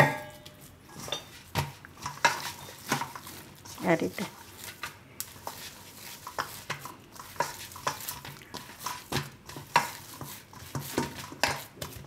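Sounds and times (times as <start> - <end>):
dough slapping in metal bowl: 1.0 - 12.0.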